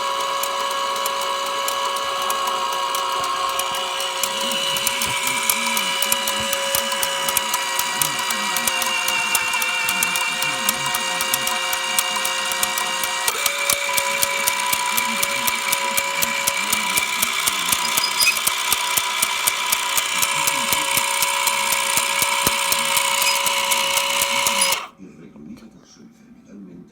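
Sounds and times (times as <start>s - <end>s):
rapid ratchet-like clicking: 0.0s - 24.9s.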